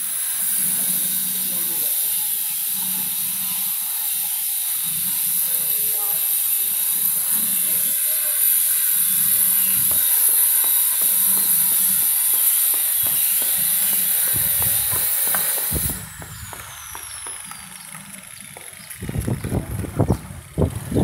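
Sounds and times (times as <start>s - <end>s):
angle grinder cutting stone: 0.0s - 21.0s
grinder disc spinning down: 0.0s - 21.0s.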